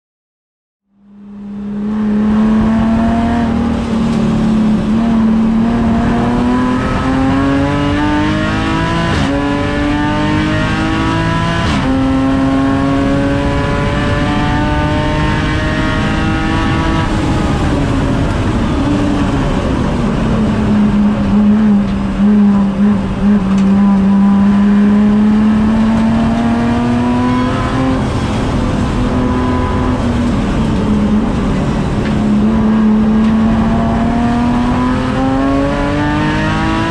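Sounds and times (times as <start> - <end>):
car engine revving from inside cabin: 1.2 - 19.4, 20.5 - 36.9.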